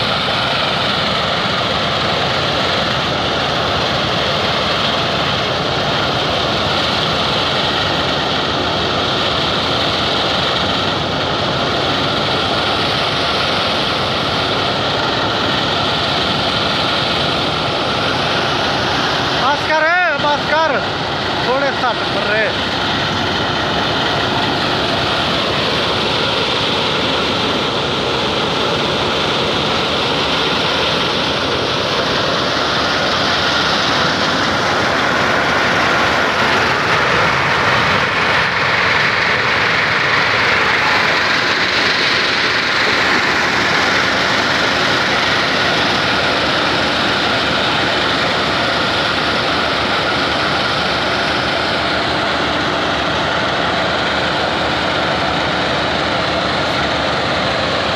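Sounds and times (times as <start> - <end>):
tractor driving threshing machine: 0.0 - 57.9.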